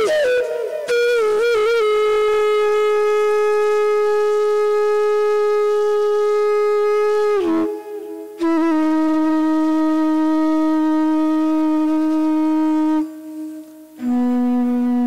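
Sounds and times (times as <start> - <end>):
bamboo flute playing: 0.0 - 15.0.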